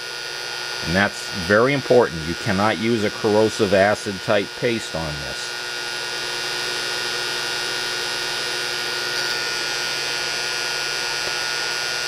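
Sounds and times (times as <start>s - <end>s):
induction heater hum and whine: 0.0s - 12.0s.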